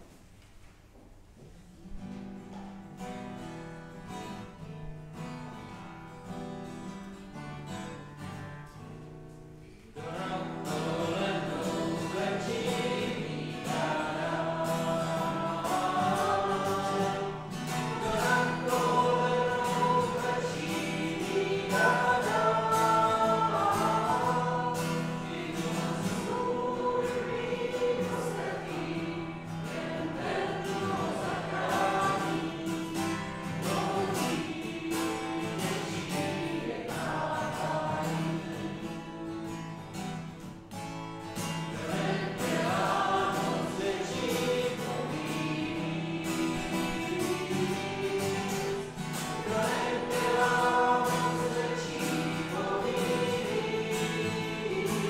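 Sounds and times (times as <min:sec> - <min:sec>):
instrumental hymn accompaniment: 0:00.0 - 0:55.0
congregation singing a hymn: 0:09.9 - 0:40.6, 0:41.4 - 0:55.0.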